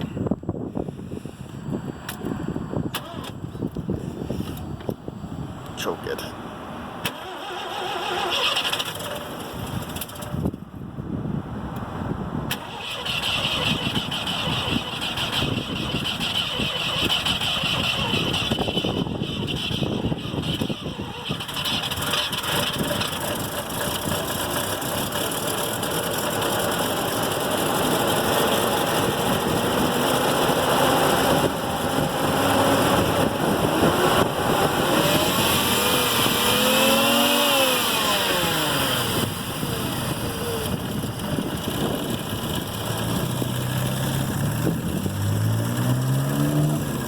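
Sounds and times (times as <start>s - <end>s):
rotary engine revving: 7.0s - 10.4s, 12.5s - 47.0s.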